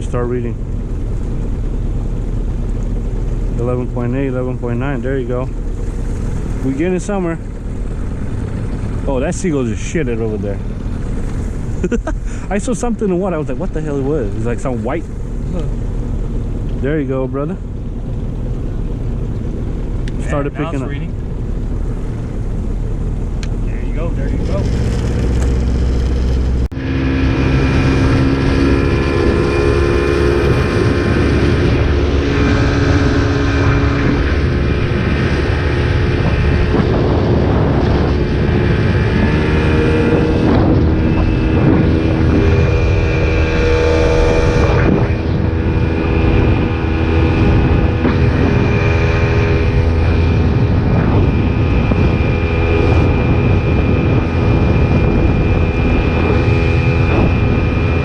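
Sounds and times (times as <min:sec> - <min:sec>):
high steady whine: 0:00.0 - 0:58.0
motorboat engine running: 0:00.0 - 0:58.0
water noise: 0:00.0 - 0:58.0.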